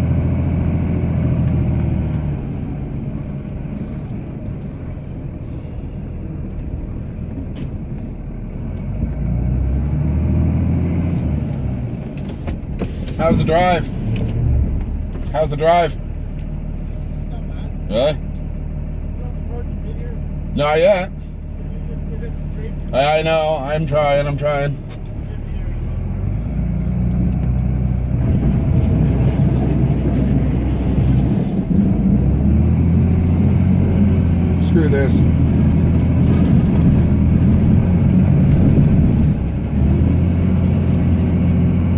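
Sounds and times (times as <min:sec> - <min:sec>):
pickup truck diesel engine running: 0:00.0 - 0:41.9.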